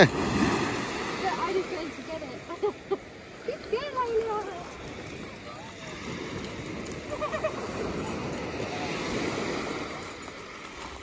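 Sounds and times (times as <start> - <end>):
waves washing on stony shore: 0.0 - 11.0.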